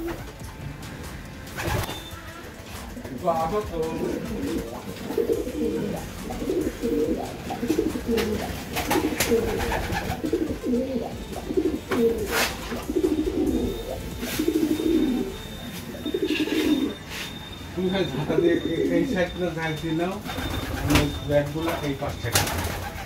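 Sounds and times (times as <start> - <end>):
pigeons cooing: 0.0 - 0.4, 1.4 - 17.3, 17.9 - 21.7, 22.4 - 23.0.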